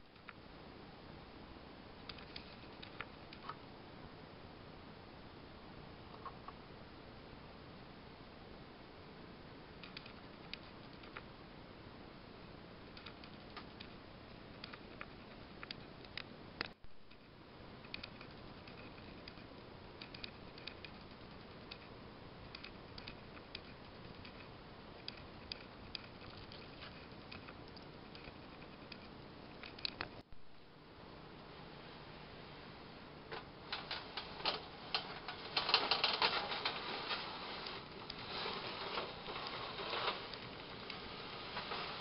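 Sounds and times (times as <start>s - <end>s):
faint steady hiss: 0.0s - 42.0s.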